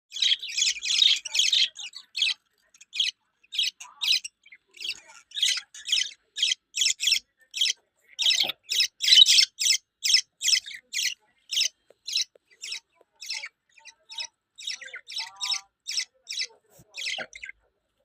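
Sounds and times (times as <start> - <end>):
budgerigar chirping: 0.1 - 17.7.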